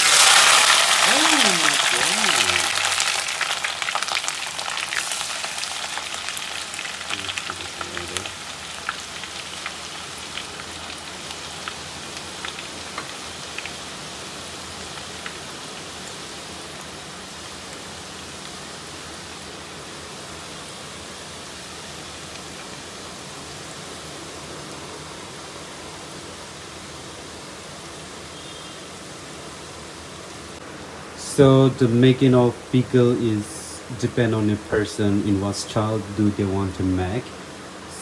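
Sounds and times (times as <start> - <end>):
garlic sizzling in hot oil: 0.0 - 30.6.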